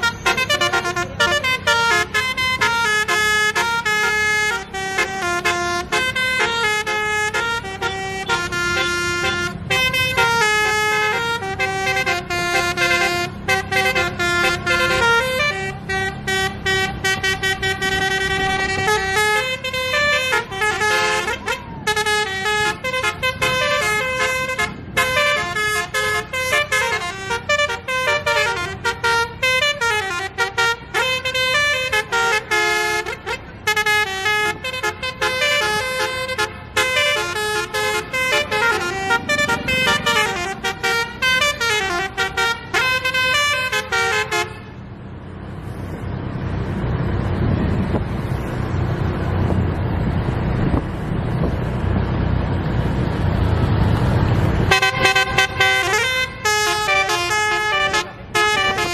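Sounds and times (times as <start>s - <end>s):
multi-tone air horn tune: 0.0s - 44.8s, 54.6s - 58.9s
bus engine rumble: 0.0s - 58.9s.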